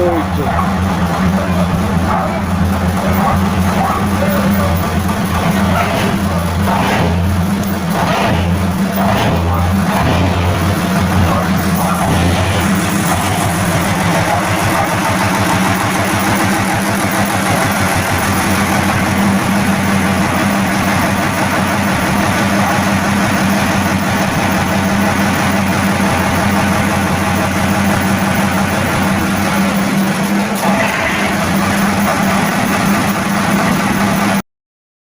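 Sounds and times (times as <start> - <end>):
diesel truck engine idling: 0.0 - 34.4.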